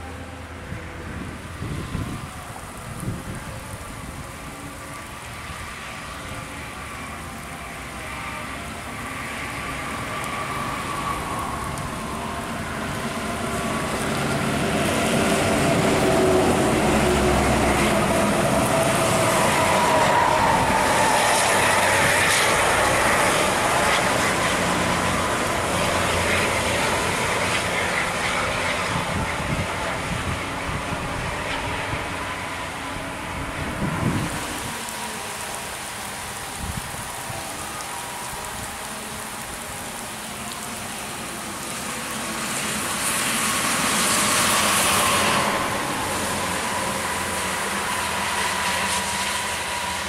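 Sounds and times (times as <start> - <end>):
buses passing on wet road: 0.0 - 50.0.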